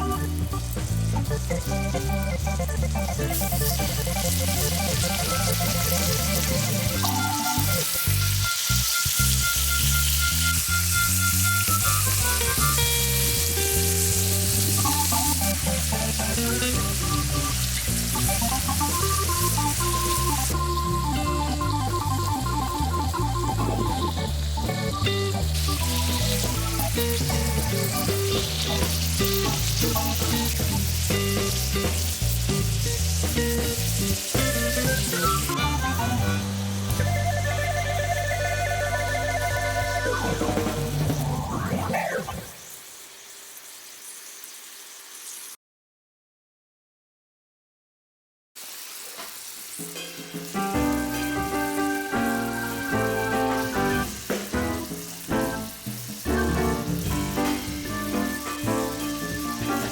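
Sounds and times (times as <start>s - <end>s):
background music: 0.0s - 42.4s, 50.4s - 59.9s
food sizzling in a pan: 0.0s - 45.6s, 48.6s - 59.9s.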